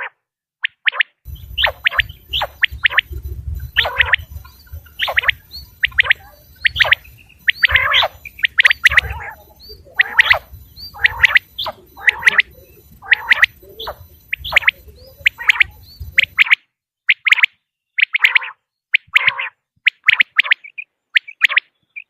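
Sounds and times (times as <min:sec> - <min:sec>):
quail calling: 0:00.0 - 0:22.0.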